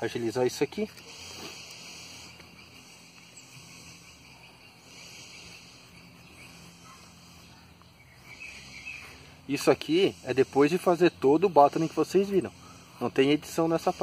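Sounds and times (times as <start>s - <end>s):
insects chorus: 0.0s - 14.0s.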